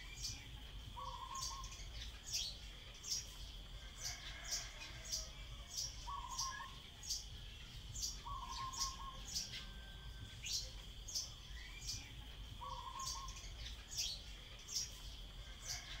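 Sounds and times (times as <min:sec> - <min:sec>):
bird high sharp chirps: 0:00.0 - 0:03.4, 0:04.0 - 0:07.3, 0:07.9 - 0:16.0.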